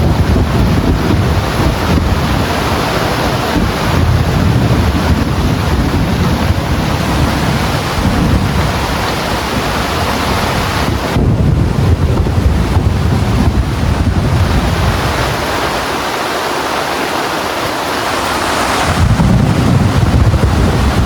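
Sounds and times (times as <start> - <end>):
heavy rain falling: 0.0 - 21.0
wind buffeting microphone: 0.0 - 21.0.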